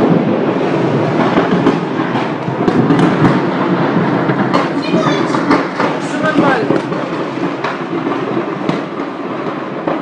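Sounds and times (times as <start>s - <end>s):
fire crackling and popping: 0.0s - 10.0s
fire roaring: 0.0s - 10.0s.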